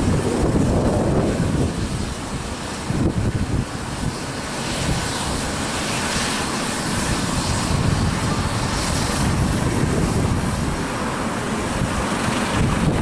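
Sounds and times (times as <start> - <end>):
helicopter turbine and rotor noise: 0.0 - 13.0
rotor wash rumble on microphone: 0.0 - 13.0.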